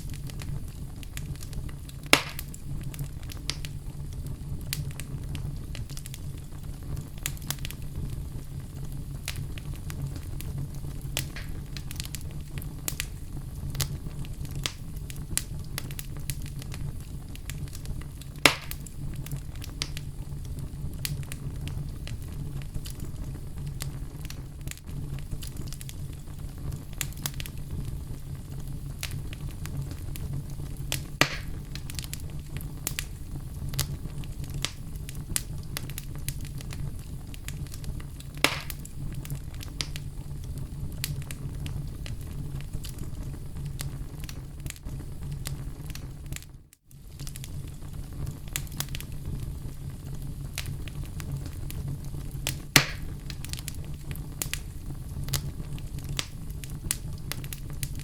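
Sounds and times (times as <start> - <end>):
fire crackling: 0.0 - 58.0
fire flames rumbling: 0.0 - 58.0
wood fire pops: 0.0 - 58.0.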